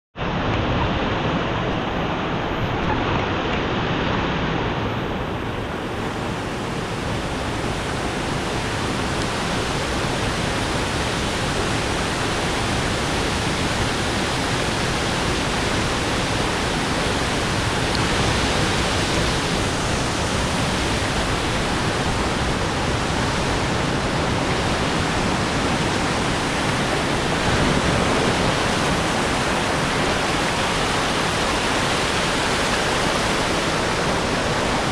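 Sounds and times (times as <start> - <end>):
rushing river water: 0.2 - 34.9.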